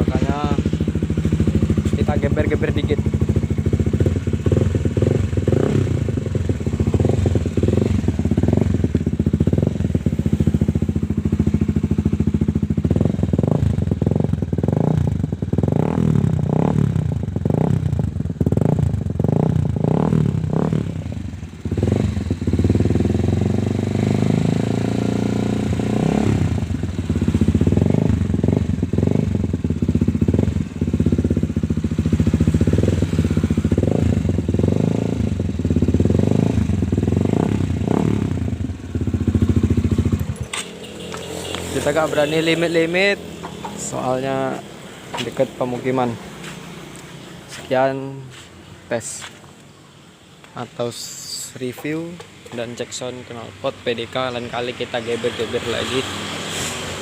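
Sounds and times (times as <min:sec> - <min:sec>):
motorcycle engine revving: 0:00.0 - 0:49.4, 0:50.8 - 0:57.0.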